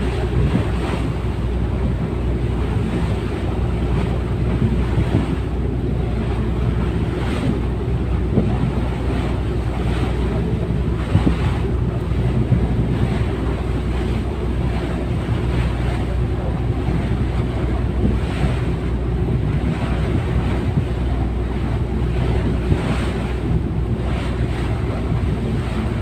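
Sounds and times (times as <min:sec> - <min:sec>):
sea waves: 0:00.0 - 0:26.0
wind buffeting microphone: 0:00.0 - 0:26.0.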